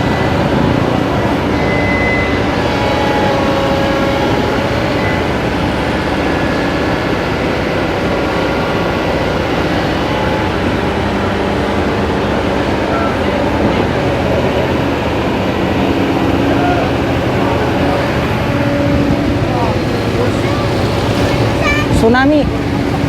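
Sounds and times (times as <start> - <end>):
water rushing through channel: 0.0 - 23.0.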